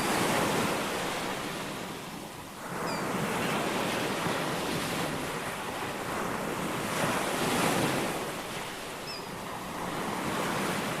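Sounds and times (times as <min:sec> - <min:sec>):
ocean waves washing in: 0:00.0 - 0:11.0.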